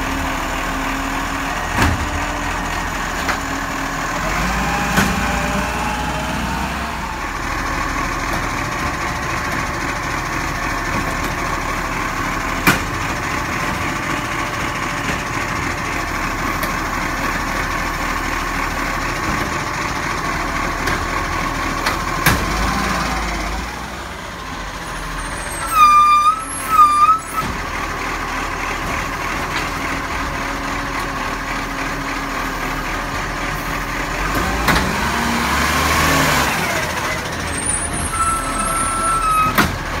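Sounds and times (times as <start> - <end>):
garbage truck engine and hydraulics: 0.0 - 40.0.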